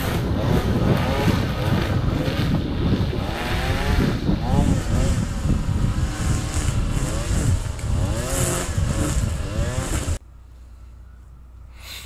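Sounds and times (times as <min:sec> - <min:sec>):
engine running with rumble: 0:00.0 - 0:11.9.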